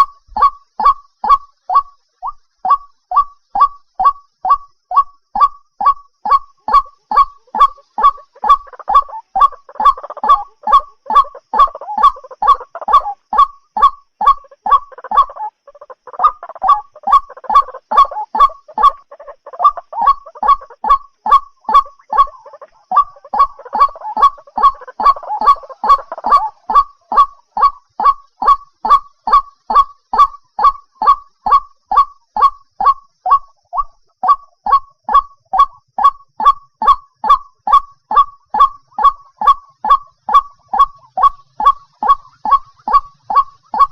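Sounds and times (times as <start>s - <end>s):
bird sharp repeated calls: 0.0s - 43.9s
bird rough chattering: 6.3s - 43.9s.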